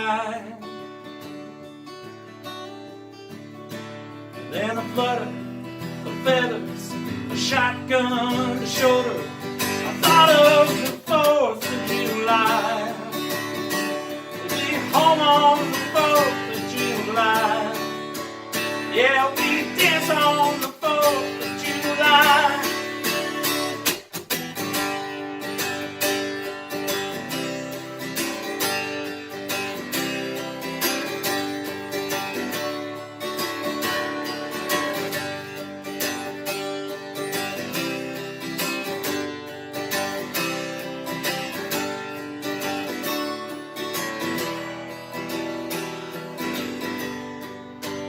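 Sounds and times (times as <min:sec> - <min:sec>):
strummed guitar: 0:00.0 - 0:48.0
country band instrumental: 0:00.2 - 0:48.0.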